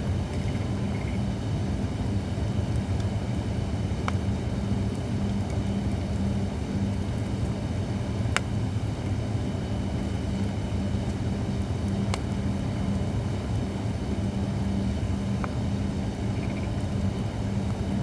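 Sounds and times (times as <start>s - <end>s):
campfire crackles: 0.0s - 18.0s.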